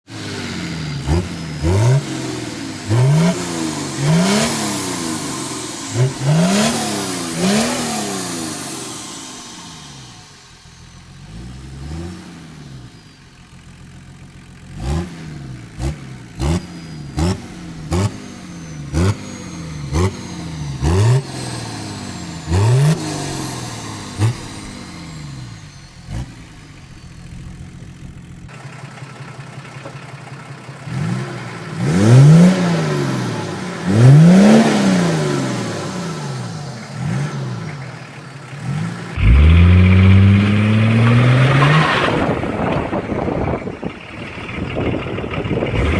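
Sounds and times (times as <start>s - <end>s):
diesel engine revving: 0.1s - 45.9s.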